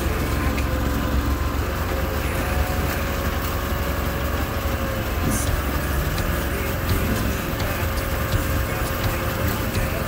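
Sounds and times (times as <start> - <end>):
steady whine: 0.0 - 10.0
vehicle engine running: 0.0 - 10.0.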